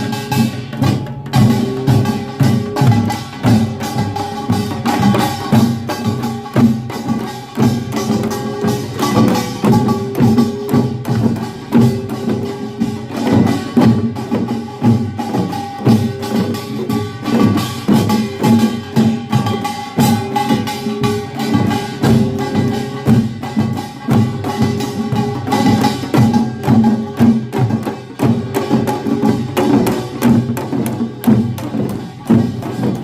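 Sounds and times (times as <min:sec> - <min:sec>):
gongs and drums clattering: 0:00.0 - 0:33.0.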